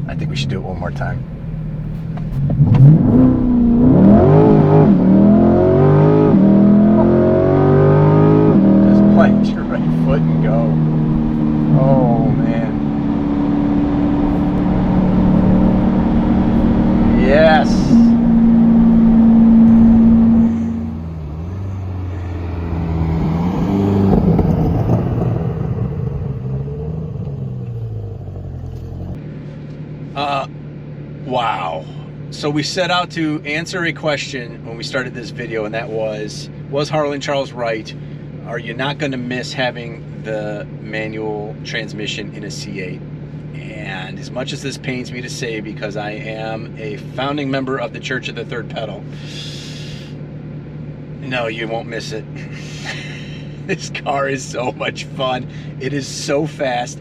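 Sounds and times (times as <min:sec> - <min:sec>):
car engine accelerating: 0:00.0 - 0:31.4, 0:32.0 - 0:57.0.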